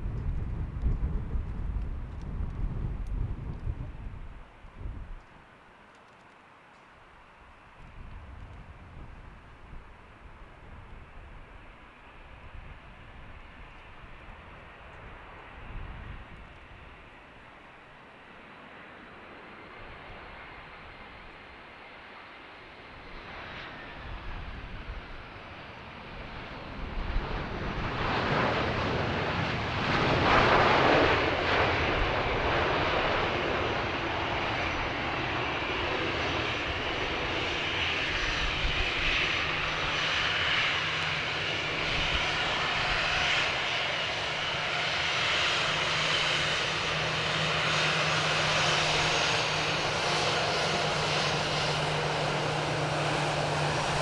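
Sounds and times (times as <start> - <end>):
jet engines passing: 7.8 - 54.0.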